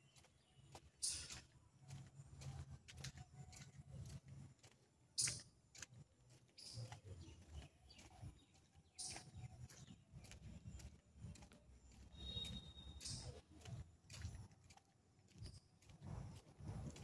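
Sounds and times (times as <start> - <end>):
footsteps on concrete tiles: 0.0 - 17.0.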